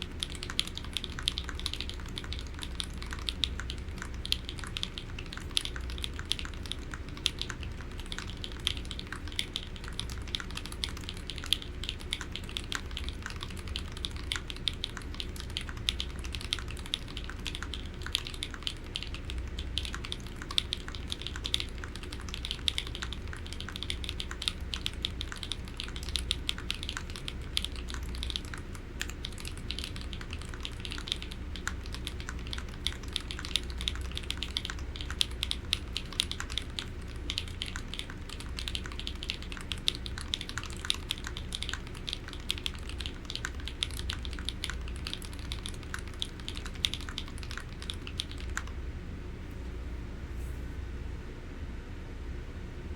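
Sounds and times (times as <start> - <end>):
fast typing on mechanical keyboard: 0.0 - 48.8.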